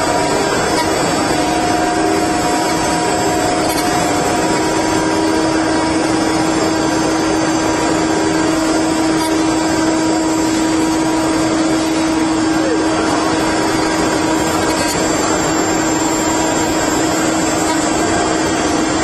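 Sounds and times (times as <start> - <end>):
router spindles whining: 0.0 - 19.0
wood cutting noise: 0.0 - 19.0.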